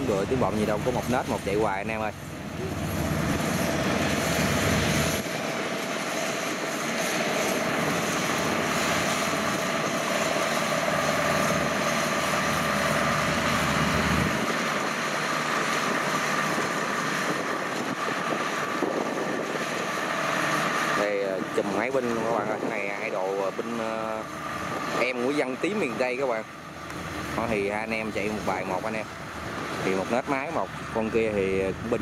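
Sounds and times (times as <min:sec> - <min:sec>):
combine harvester engine: 0:00.0 - 0:32.0
steady whine: 0:00.0 - 0:32.0.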